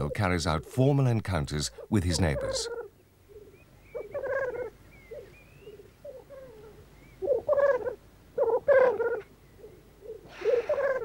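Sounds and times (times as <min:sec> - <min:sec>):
grouse bubbling calls: 0:01.8 - 0:11.0.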